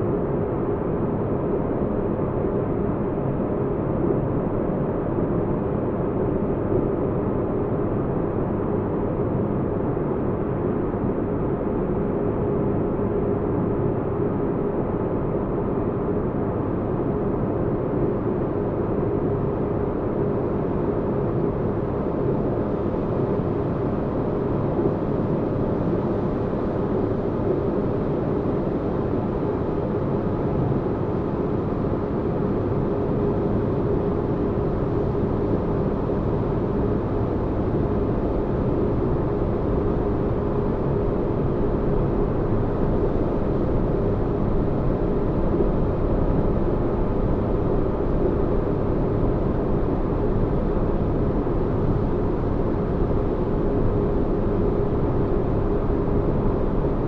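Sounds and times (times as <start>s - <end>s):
constant hum: 0.0s - 57.0s.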